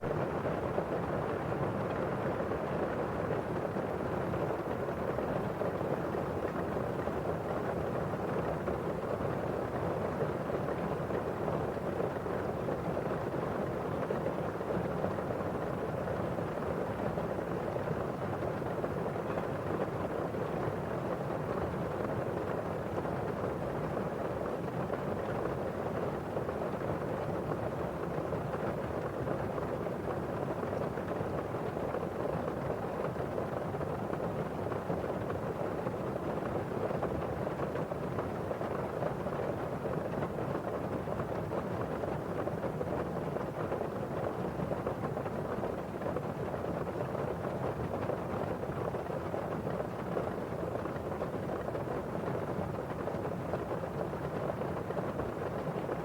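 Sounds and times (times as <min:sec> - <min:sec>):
muffled rain outside: 0:00.0 - 0:56.0.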